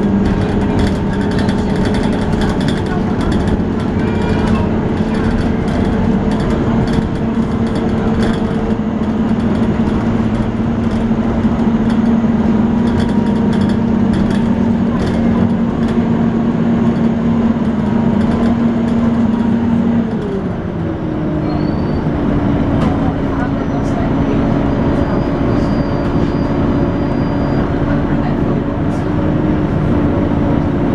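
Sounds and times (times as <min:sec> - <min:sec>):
bus diesel engine whining: 0:00.0 - 0:30.9.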